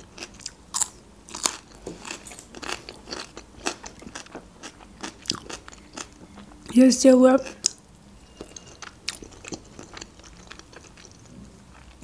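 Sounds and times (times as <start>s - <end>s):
crunchy chewing of green onion: 0.0s - 6.5s, 7.5s - 12.0s.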